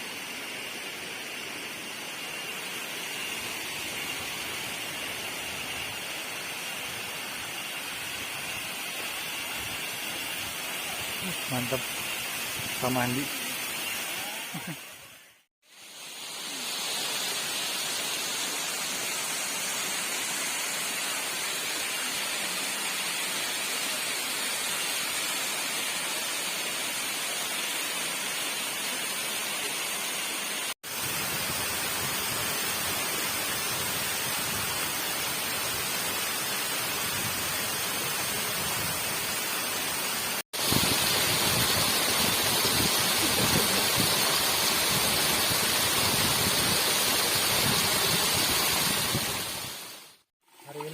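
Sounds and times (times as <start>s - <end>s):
waterfall rushing and splashing: 0.0s - 50.9s.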